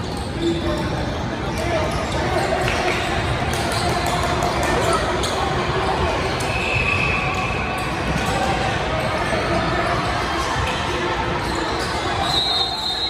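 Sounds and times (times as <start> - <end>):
voices: 0.4 - 13.0.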